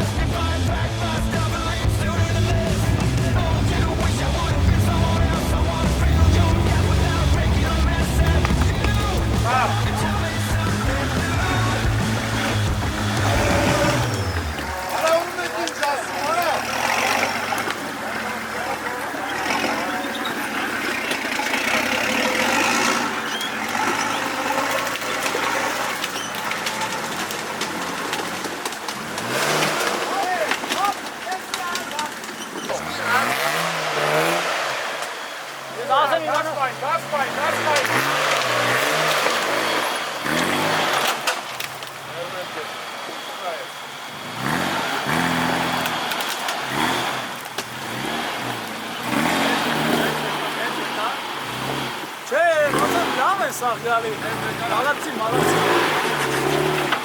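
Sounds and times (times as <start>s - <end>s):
vehicle engine at low revs: 0.0s - 57.0s.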